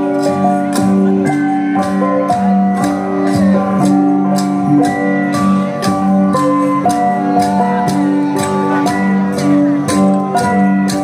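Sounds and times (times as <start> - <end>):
gong ensemble playing: 0.0 - 11.0.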